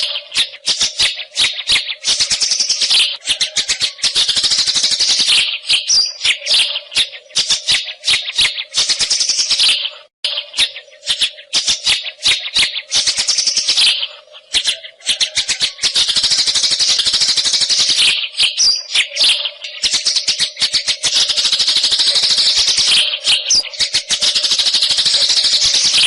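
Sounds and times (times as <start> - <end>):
bird singing rattling notes: 0.0 - 26.0.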